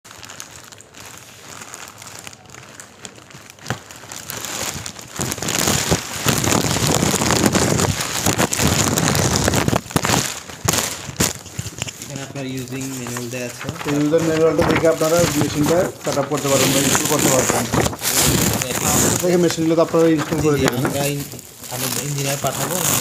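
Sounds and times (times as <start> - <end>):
plastic bag rustling and crinkling: 0.1 - 23.0.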